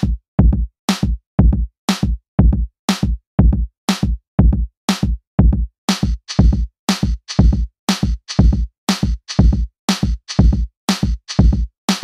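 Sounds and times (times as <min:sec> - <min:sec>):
drum machine beat: 0:00.0 - 0:12.0.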